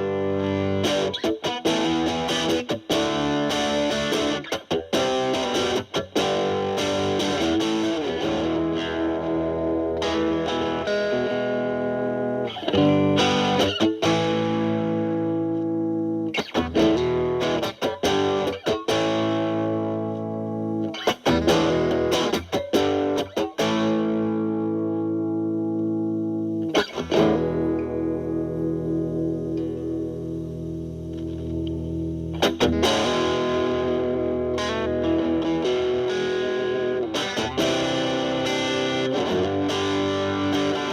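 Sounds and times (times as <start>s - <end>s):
quick guitar picking bursts: 0.0s - 25.7s, 26.3s - 40.9s
distorted electric guitar chords: 0.0s - 40.9s.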